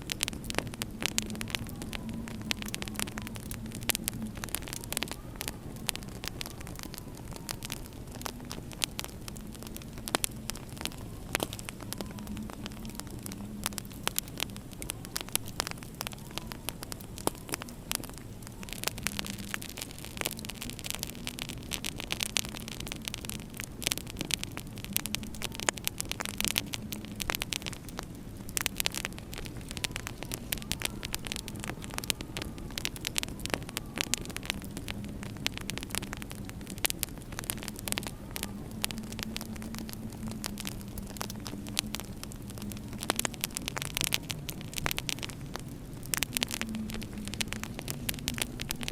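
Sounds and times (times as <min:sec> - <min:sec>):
howling wind: 0:00.0 - 0:48.9
wood fire crackling: 0:00.0 - 0:48.9.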